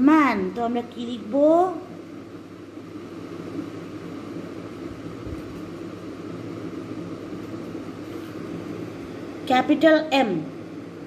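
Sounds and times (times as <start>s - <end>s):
room noise hum and hiss: 0.0s - 11.0s.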